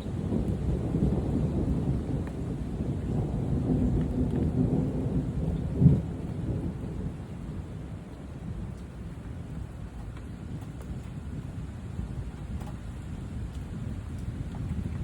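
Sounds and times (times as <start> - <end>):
deep rumbling from the sky: 0.0 - 15.0.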